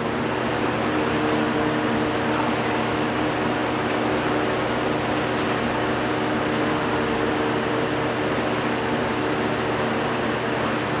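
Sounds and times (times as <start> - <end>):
ceiling fan motor hum: 0.0 - 11.0
fan blades rushing: 0.0 - 11.0.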